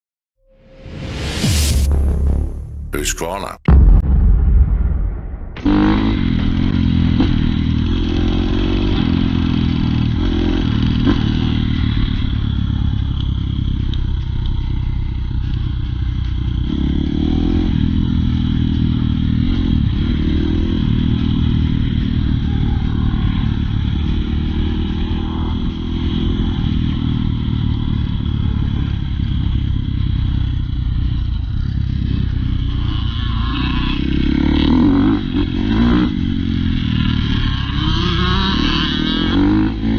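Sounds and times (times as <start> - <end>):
dirt bike engine revving: 5.6 - 39.9.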